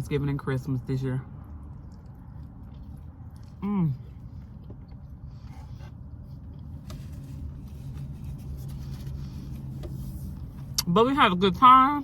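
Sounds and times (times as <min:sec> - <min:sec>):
vehicle rumble inside car: 0:00.0 - 0:12.0.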